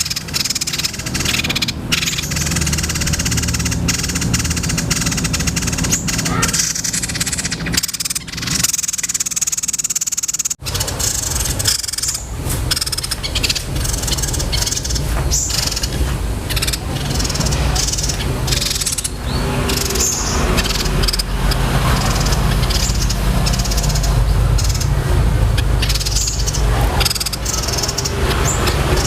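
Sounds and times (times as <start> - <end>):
songbird rolling trills: 0.0 - 29.0.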